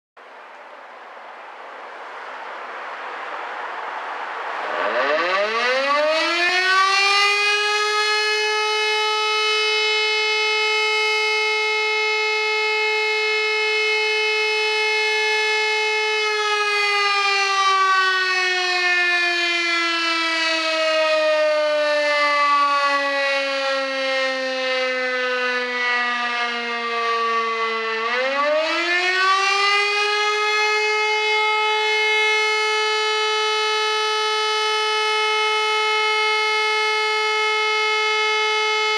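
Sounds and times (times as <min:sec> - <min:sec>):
motor siren wailing: 0:04.5 - 0:38.9.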